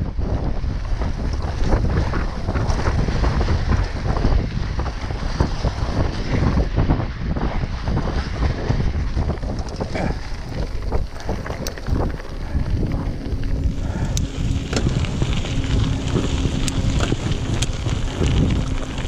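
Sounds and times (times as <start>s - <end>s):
bike clicks and rattles: 0.0s - 19.0s
bike tyres rolling on dirt: 0.0s - 19.0s
wind buffeting microphone: 0.0s - 19.0s.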